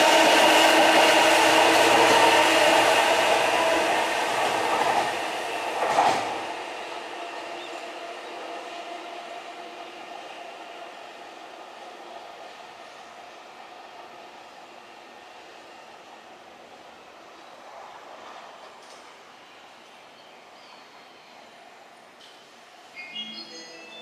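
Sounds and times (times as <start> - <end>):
train rumbling past: 0.0 - 19.9
multi-tone train hum: 0.0 - 24.0.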